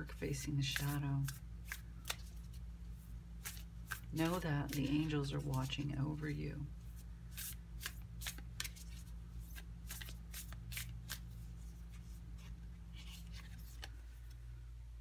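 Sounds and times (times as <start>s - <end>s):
soft card rustle: 0.0s - 14.6s
cards being shuffled: 0.3s - 14.4s.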